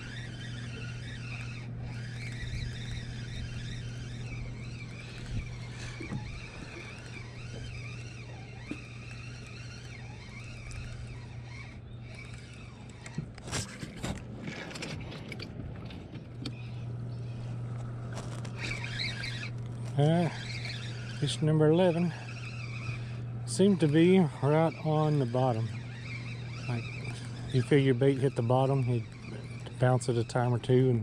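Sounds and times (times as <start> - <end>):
spinning reel being cranked: 0.0 - 31.0
steady low hum: 0.0 - 31.0.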